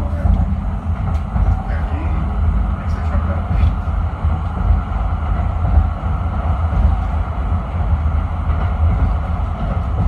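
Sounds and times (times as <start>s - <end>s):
tram wheels rumbling on rails: 0.0s - 10.0s.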